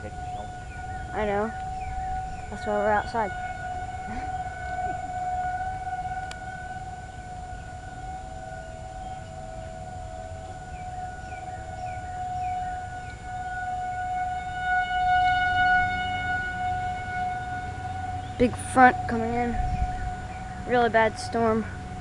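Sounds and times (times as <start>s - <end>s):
faint lower siren tone: 0.0s - 22.0s
warning siren wailing: 0.0s - 22.0s.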